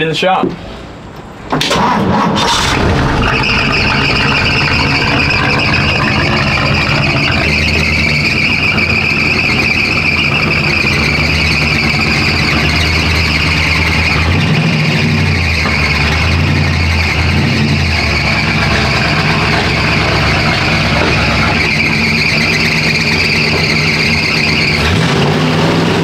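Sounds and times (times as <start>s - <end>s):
engine starting and running: 0.7s - 26.0s
high-pitched squeal: 1.7s - 26.0s.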